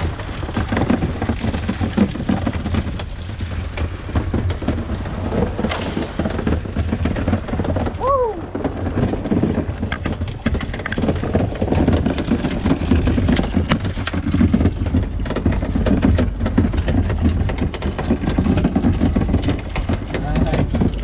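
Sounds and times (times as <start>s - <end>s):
knocks and clatter: 0.0s - 21.0s
outboard motor running: 0.0s - 21.0s
wind: 0.0s - 21.0s.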